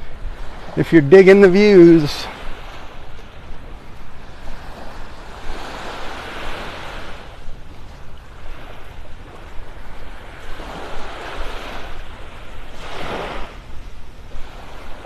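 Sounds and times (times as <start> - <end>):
low wind rumble on microphone: 0.0 - 1.4, 2.2 - 15.0
gentle waves washing on sand: 0.0 - 15.0.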